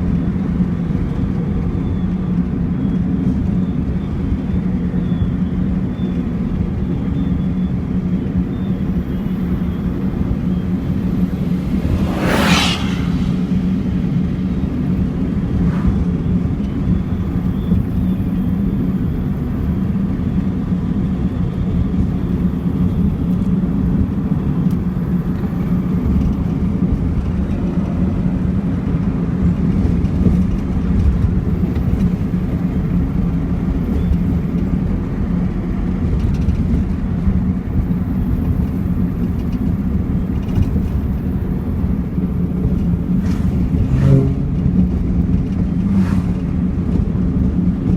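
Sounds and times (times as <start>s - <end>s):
car engine running steadily: 0.0s - 47.9s.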